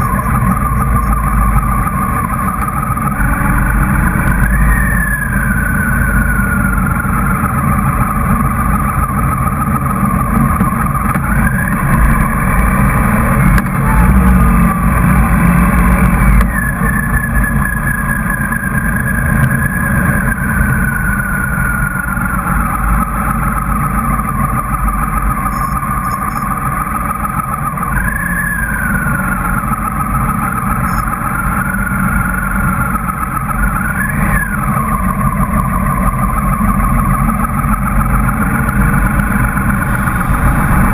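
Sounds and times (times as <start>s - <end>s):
motorcycle engine whine: 0.0s - 40.9s
wind and road noise: 0.0s - 40.9s.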